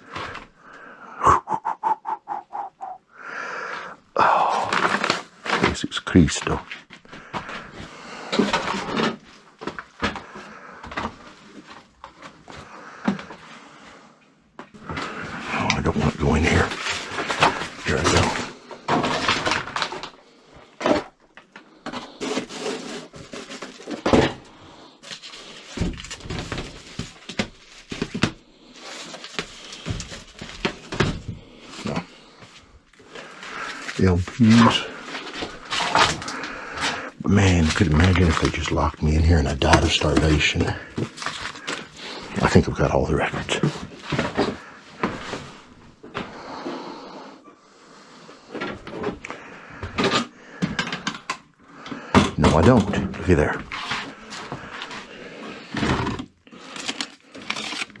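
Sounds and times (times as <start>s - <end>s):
knocks scrapes and rustles: 4.6s - 13.6s, 14.7s - 20.2s, 20.8s - 46.8s, 52.2s - 58.0s.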